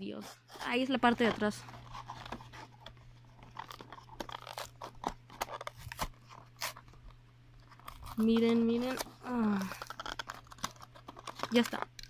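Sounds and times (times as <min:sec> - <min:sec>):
plastic packaging crackling: 0:00.6 - 0:12.0.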